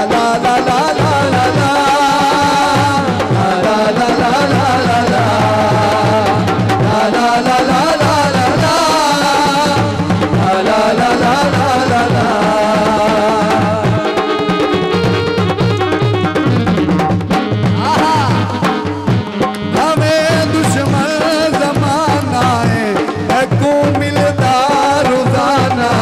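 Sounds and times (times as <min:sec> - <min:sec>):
ornamented folk melody: 0:00.0 - 0:26.0
repeating drum beat: 0:00.0 - 0:26.0.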